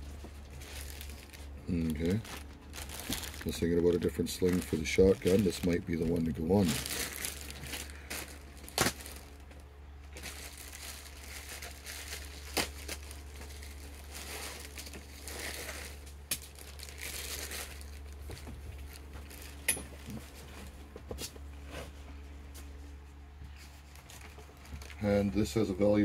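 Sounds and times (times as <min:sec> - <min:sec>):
plastic bag crinkling: 0:00.0 - 0:20.8, 0:23.7 - 0:25.5
steady low hum: 0:00.0 - 0:26.0.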